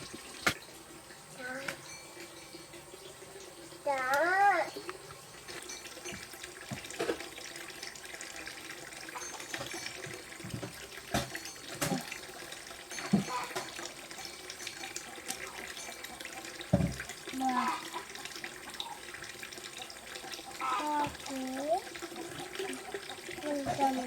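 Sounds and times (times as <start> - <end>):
water running and splashing: 0.0 - 24.0.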